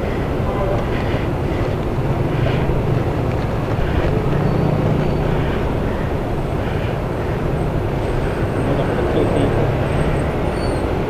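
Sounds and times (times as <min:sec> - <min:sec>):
road traffic noise: 0:00.0 - 0:11.0
vehicle engines running: 0:00.0 - 0:11.0.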